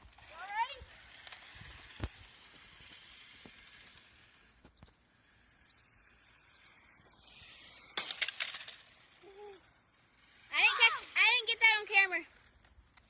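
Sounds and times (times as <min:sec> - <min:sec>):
toy car hiss: 0:00.0 - 0:13.0.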